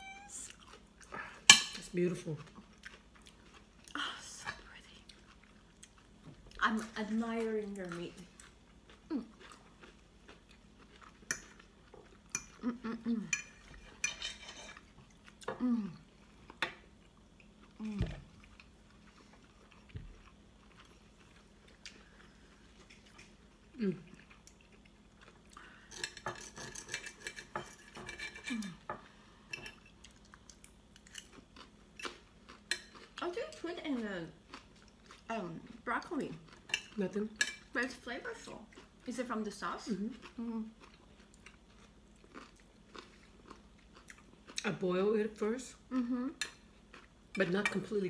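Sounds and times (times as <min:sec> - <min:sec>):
chewing: 0:00.5 - 0:01.5, 0:02.4 - 0:07.0, 0:07.6 - 0:28.7, 0:29.6 - 0:33.3, 0:34.4 - 0:37.7, 0:39.8 - 0:44.6, 0:45.9 - 0:47.4.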